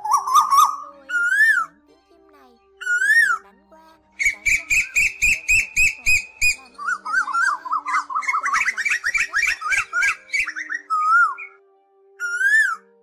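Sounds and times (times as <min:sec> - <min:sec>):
koel calling: 0:00.0 - 0:01.8, 0:02.8 - 0:03.5, 0:04.2 - 0:11.6, 0:12.2 - 0:12.9.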